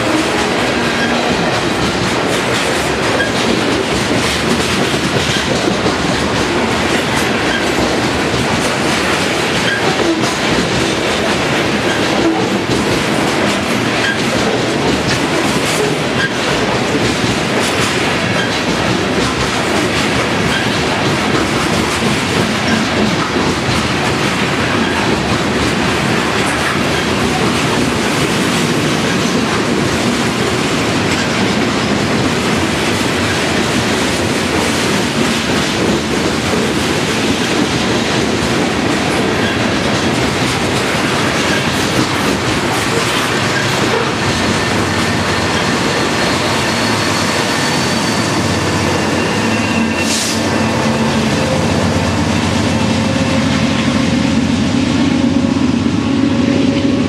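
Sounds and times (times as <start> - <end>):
wheels clicking over rail joints: 0.0 - 47.8
train wheels clattering on rails: 0.0 - 57.0.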